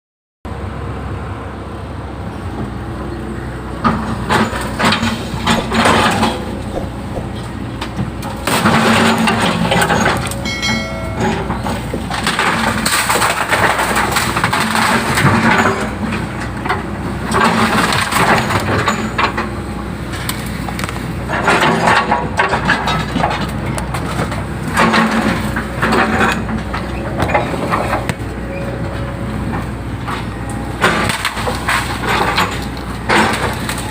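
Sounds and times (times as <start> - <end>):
excavator diesel engine: 0.5 - 33.9.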